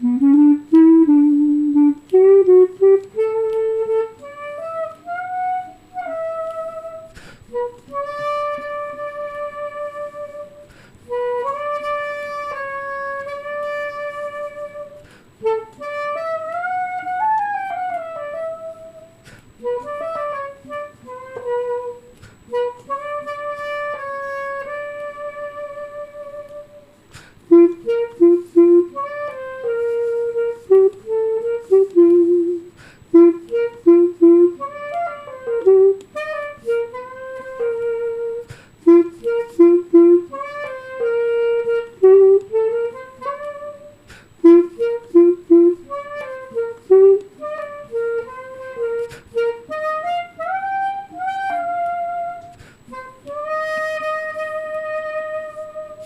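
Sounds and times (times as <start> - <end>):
solo clarinet melody: 0.0 - 56.0.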